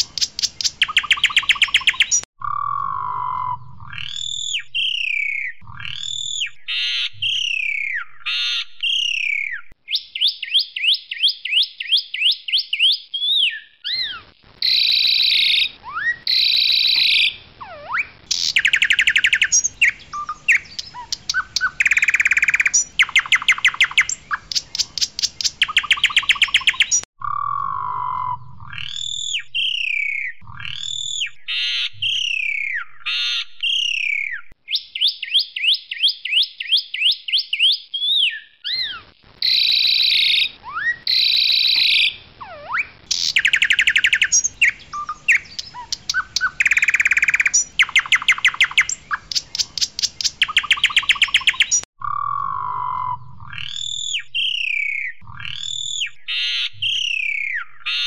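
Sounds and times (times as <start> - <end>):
starling singing: 0.0 - 10.9, 12.8 - 35.1, 37.6 - 58.0.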